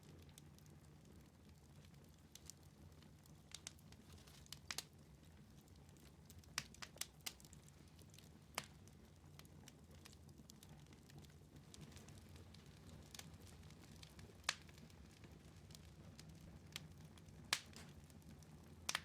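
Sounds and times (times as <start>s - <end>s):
wood fire crackling: 0.0s - 19.0s
fire pops and snaps: 0.1s - 19.0s.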